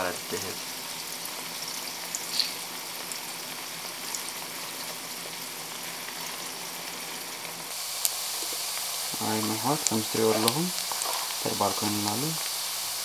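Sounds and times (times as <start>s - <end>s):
tofu sizzling in oil: 0.0s - 13.0s.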